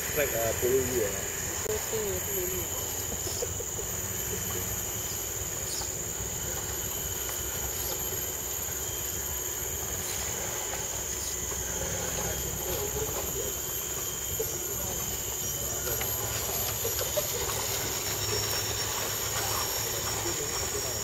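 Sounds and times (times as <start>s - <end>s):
high-pitched insect drone: 0.0s - 21.0s
small electric motor whirring: 0.0s - 21.0s.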